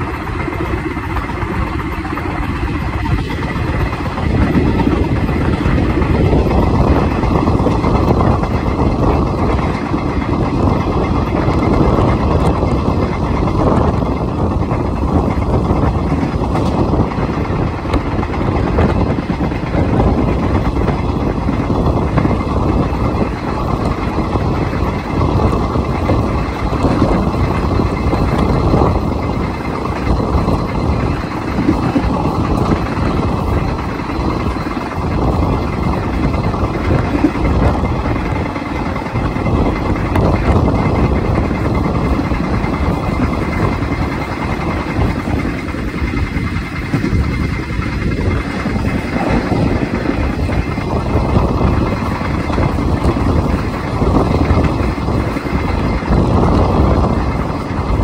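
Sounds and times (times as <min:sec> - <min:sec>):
rushing air: 0:00.0 - 0:58.0
train wheels rumbling on track: 0:00.0 - 0:58.0.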